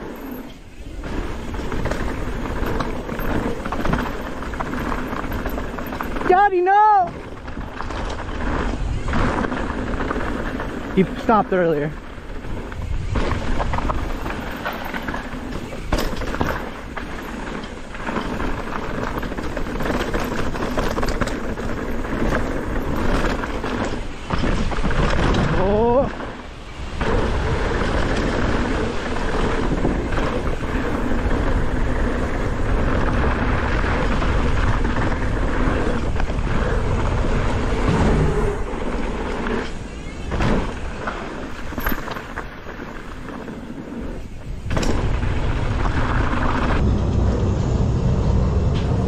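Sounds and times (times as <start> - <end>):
bike tyres rumbling and rattling: 0.0 - 49.0
short pitched glide: 0.0 - 49.0
wind rush over microphone: 0.0 - 49.0.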